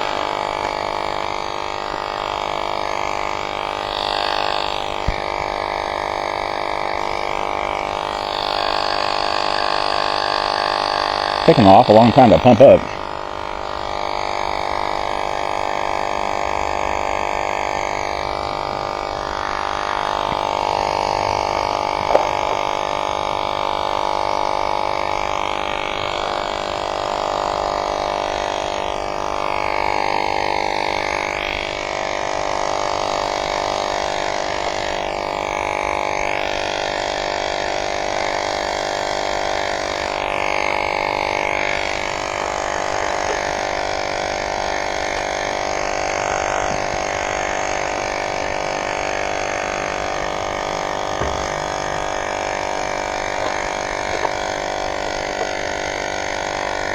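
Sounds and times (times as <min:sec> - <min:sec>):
electric tire inflator buzzing: 0:00.0 - 0:56.9.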